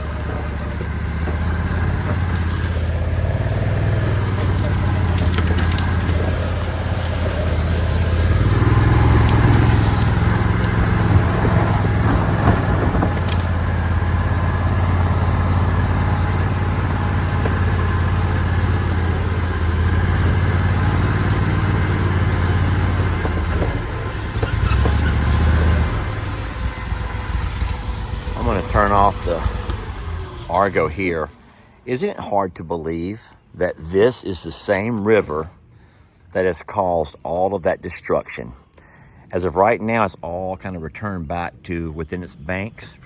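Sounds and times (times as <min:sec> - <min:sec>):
amphibious vehicle engine running: 0:00.0 - 0:35.7.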